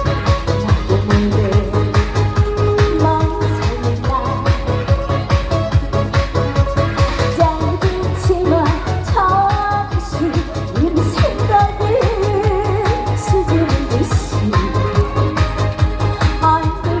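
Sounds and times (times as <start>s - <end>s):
woman singing: 0.0s - 5.8s, 7.2s - 17.0s
backing music with drum beat: 0.0s - 17.0s.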